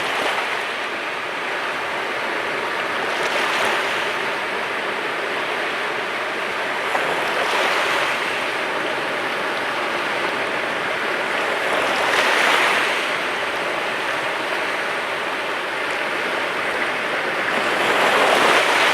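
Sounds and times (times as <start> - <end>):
sea waves washing onto shore: 0.0 - 18.9.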